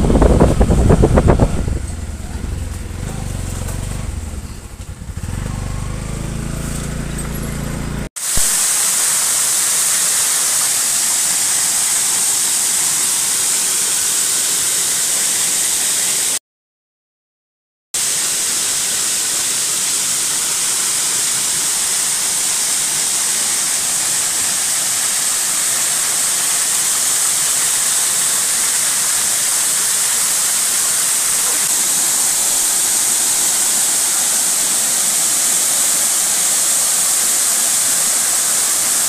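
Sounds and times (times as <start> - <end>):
waterfall rushing: 0.0 - 4.4, 8.2 - 16.4, 18.0 - 39.0.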